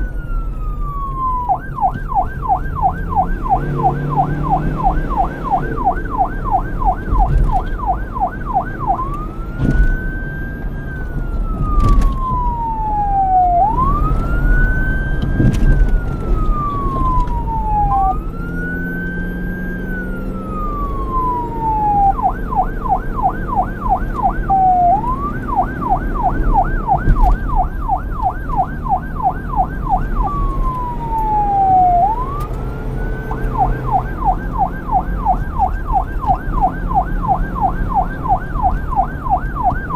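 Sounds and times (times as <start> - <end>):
police siren yelp and wail: 0.0 - 39.9.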